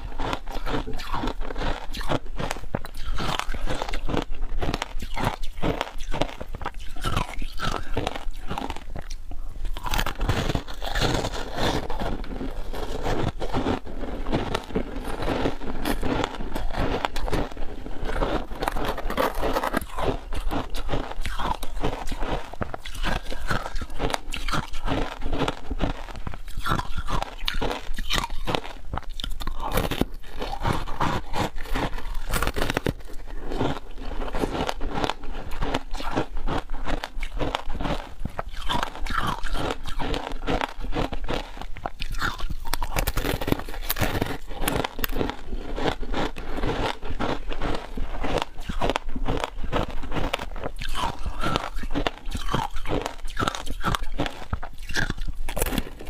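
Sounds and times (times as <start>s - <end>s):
crunching shaved ice: 0.0s - 56.0s.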